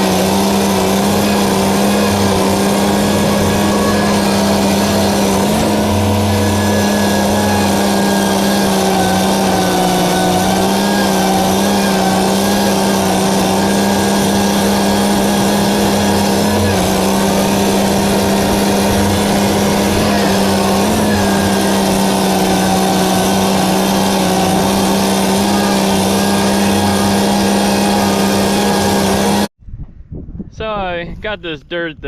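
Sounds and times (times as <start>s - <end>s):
engine droning: 0.0s - 29.5s.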